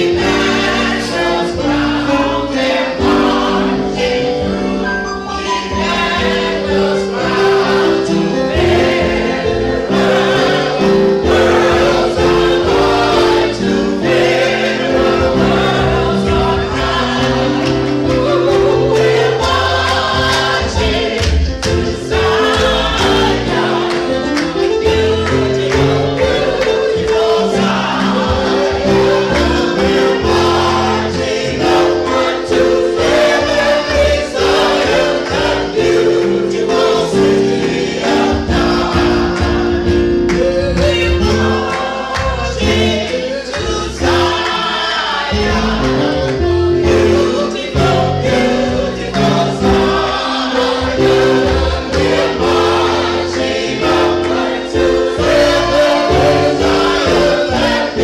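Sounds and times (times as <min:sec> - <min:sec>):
gospel choir singing: 0:00.0 - 0:58.0
instrumental accompaniment: 0:00.0 - 0:58.0.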